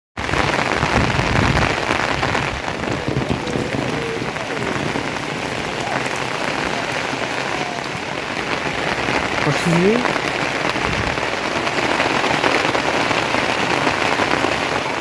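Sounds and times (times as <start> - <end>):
rain falling: 0.2 - 15.0.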